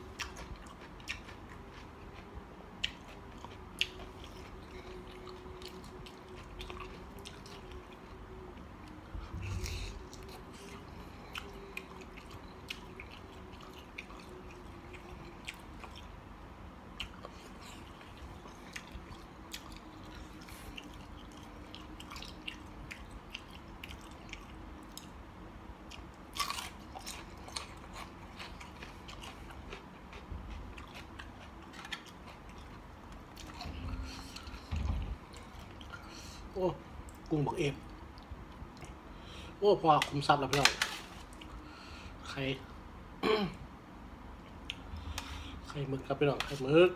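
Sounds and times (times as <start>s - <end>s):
person chewing food: 0.0s - 25.2s, 25.8s - 39.4s.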